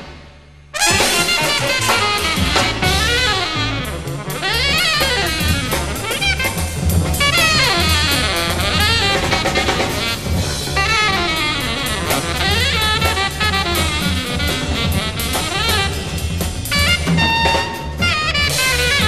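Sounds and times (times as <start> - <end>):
drum kit with cymbals: 0.0 - 19.0
trumpet: 0.0 - 19.0
saxophones: 0.7 - 19.0
walking double bass: 0.8 - 19.0.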